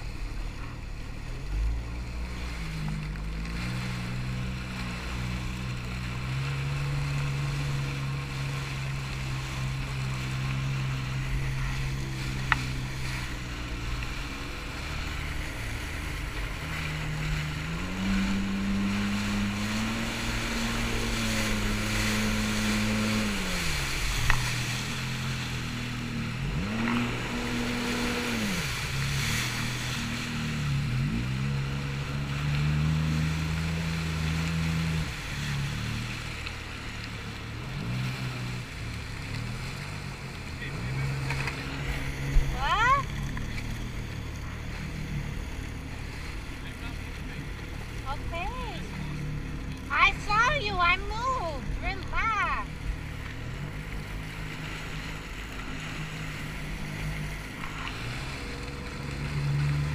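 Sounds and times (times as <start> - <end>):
water splashing: 0.0 - 59.9
watercraft engine revving: 0.0 - 59.9
wind: 0.0 - 59.9.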